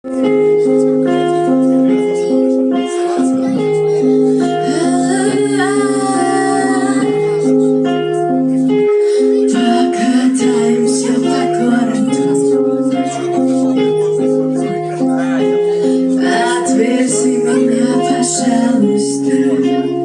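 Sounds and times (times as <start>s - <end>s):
blues guitar riff: 0.0s - 20.0s.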